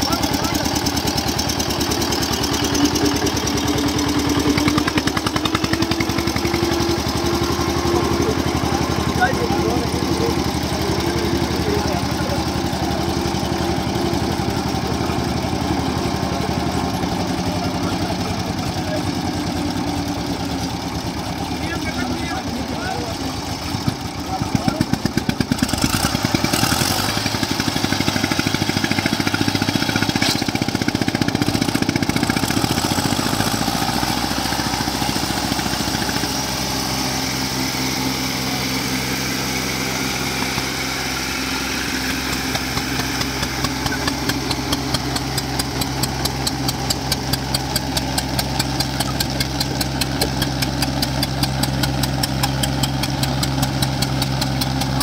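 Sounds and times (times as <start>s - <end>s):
diesel tractor engines working: 0.0s - 55.0s.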